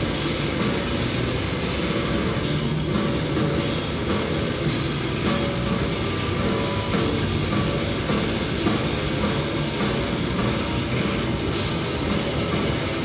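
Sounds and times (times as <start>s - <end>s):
bass guitar: 0.0s - 13.0s
distorted electric guitars: 0.0s - 13.0s
drum kit: 0.0s - 13.0s.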